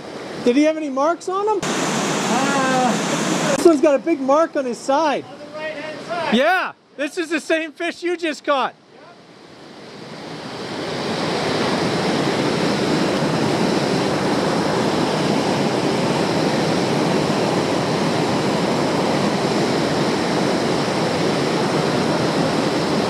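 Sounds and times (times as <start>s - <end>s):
whitewater roaring: 1.6s - 6.6s, 9.0s - 23.0s.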